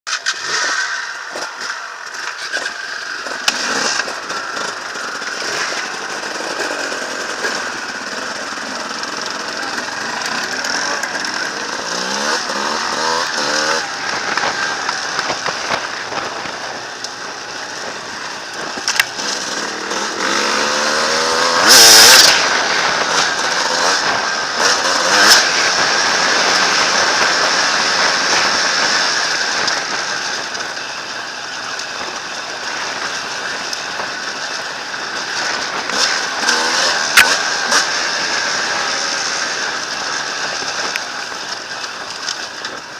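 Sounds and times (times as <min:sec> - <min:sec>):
motorcycle engine revving: 0:00.1 - 0:42.9.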